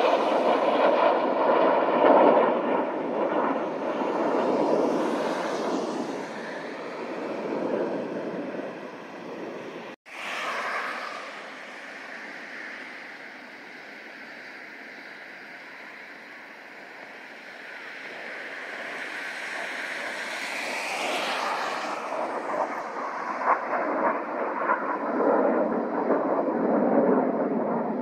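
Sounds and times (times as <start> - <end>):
jet engines passing overhead: 0.0 - 28.0.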